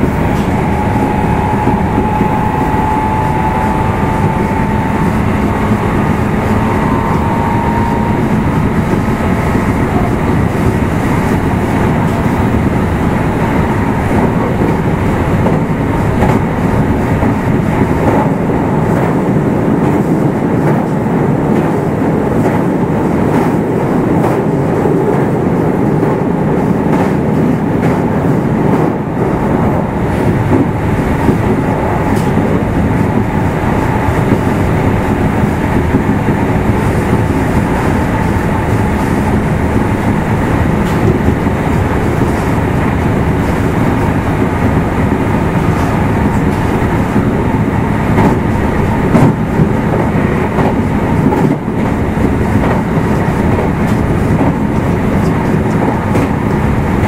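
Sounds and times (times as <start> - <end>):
electric train wheel and motor noise: 0.0 - 57.0
rail joint clicks: 0.0 - 57.0.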